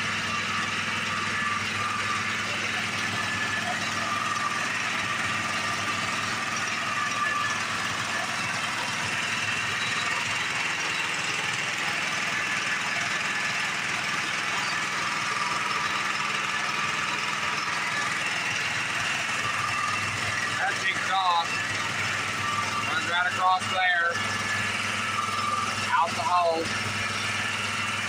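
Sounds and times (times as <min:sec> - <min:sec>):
small gasoline engine running: 0:00.0 - 0:28.0.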